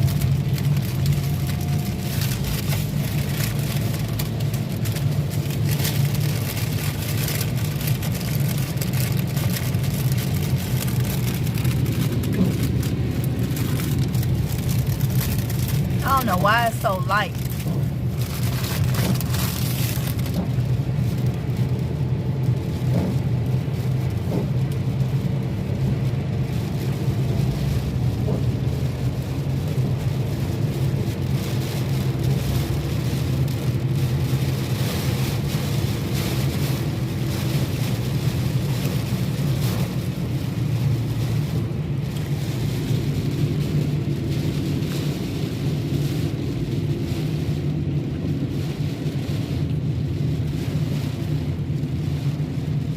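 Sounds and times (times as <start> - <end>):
car driving rumble: 0.0 - 52.9.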